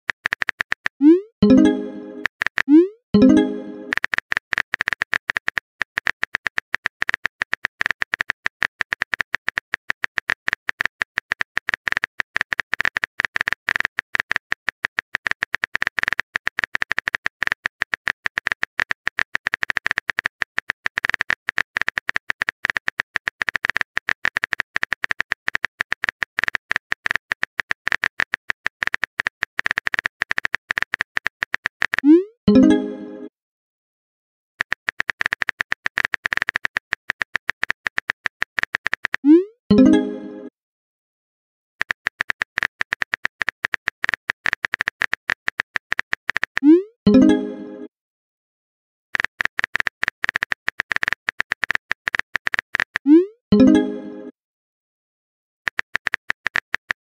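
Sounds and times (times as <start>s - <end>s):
keyboard typing clicks: 0.1s - 33.3s, 34.6s - 40.5s, 41.8s - 47.9s, 49.2s - 54.3s, 55.7s - 57.0s.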